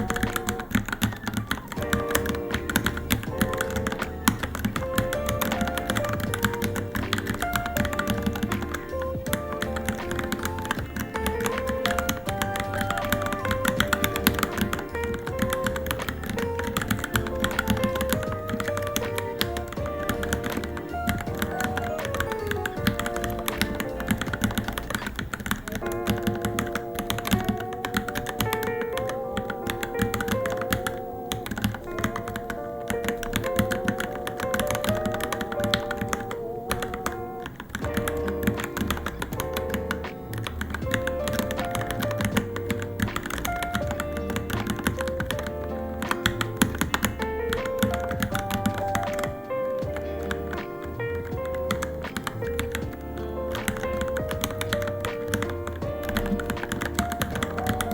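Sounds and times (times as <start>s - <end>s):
background music: 0.0s - 57.9s
mechanical keyboard typing: 0.0s - 57.9s.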